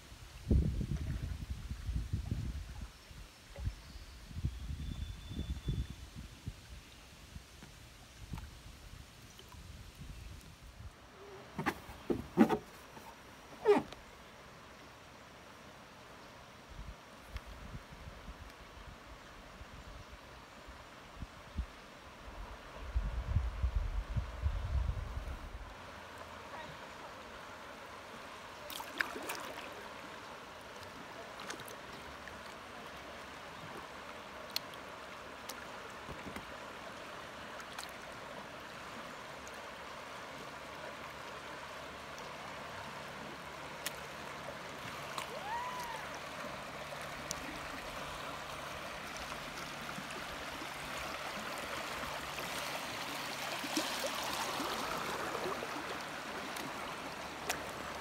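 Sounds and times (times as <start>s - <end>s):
creek water rushing and gurgling: 5.7s - 58.0s.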